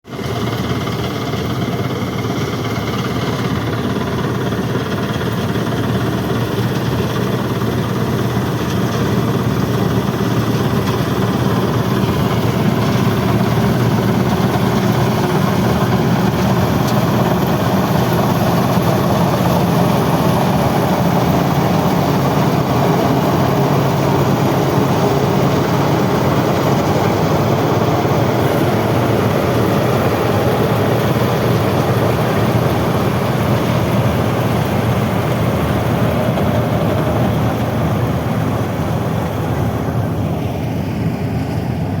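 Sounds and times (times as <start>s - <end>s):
combine harvester running: 0.1s - 42.0s.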